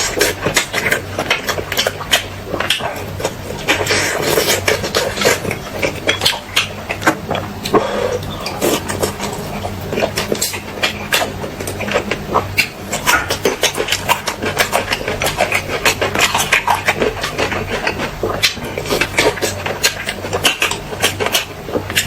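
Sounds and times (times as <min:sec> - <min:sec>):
low steady hum: 0:00.0 - 0:22.0
person chewing and smacking: 0:00.0 - 0:22.0.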